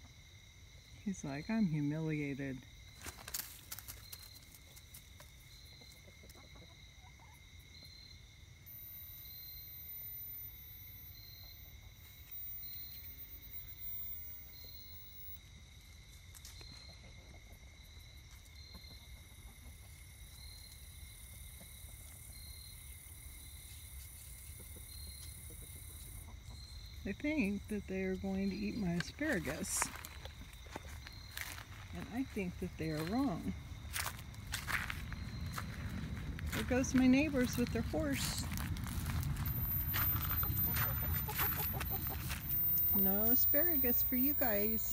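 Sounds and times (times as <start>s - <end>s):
insect chorus trilling: 0.0s - 44.9s.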